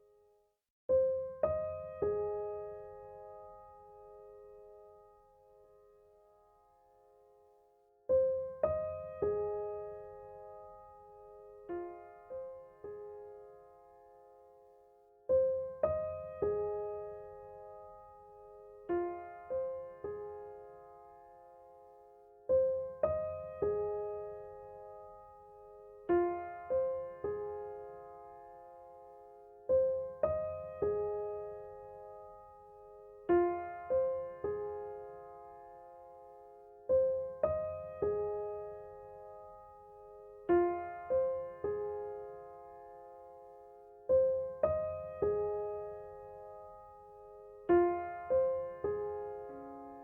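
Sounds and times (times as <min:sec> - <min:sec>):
gentle piano music: 0:00.0 - 0:50.0.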